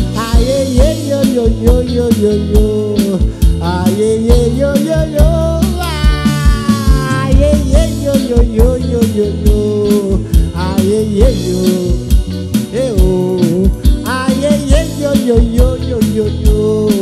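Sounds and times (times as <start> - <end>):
drum kit: 0.0 - 17.0
electric bass: 0.0 - 17.0
electric guitar: 0.0 - 17.0
keyboard: 0.0 - 17.0.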